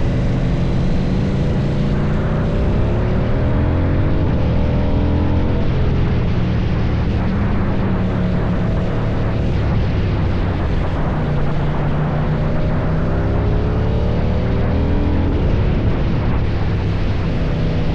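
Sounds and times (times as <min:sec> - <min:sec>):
motorcycle engine rough exhaust: 0:00.0 - 0:17.9.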